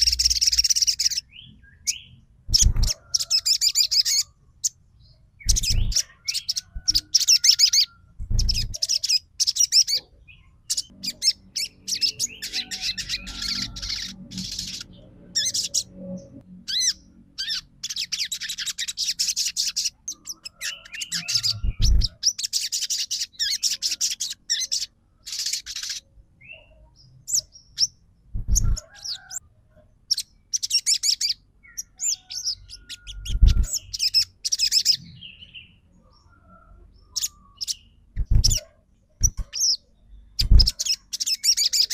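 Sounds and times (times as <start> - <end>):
songbird trilling: 0.0 - 4.8, 5.4 - 16.0, 16.7 - 26.7, 27.3 - 29.4, 30.1 - 35.6, 37.1 - 41.9.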